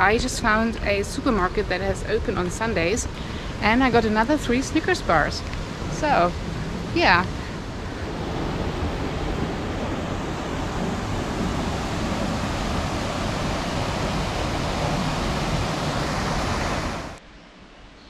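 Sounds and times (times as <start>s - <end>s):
water rushing over weir: 0.9s - 17.2s.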